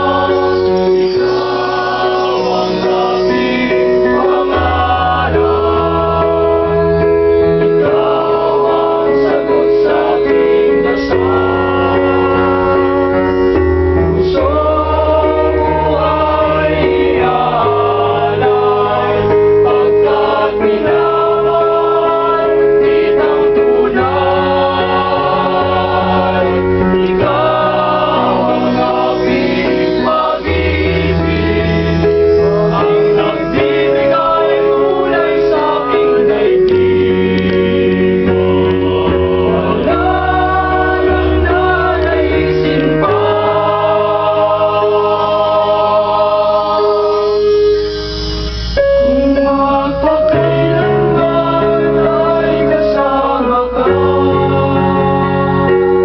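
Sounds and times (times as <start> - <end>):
male vocal group singing in harmony: 0.0 - 48.2, 48.8 - 56.0.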